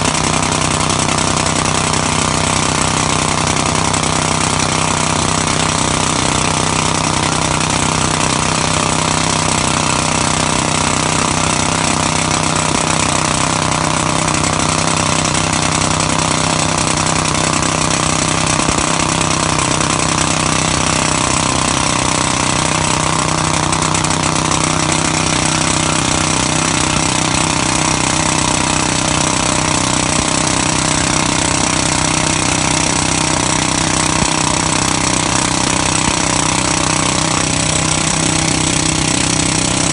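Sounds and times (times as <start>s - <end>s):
jackhammer drill hammering: 0.0s - 39.9s.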